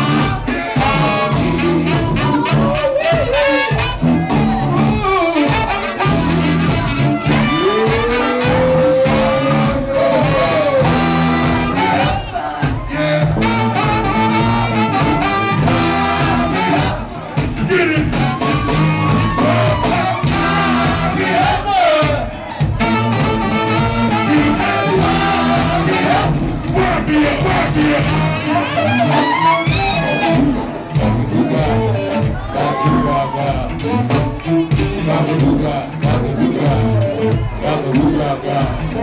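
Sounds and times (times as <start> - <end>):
horn lines: 0.0 - 32.2
bass line: 0.0 - 39.0
drums: 0.0 - 39.0
person singing: 0.0 - 39.0.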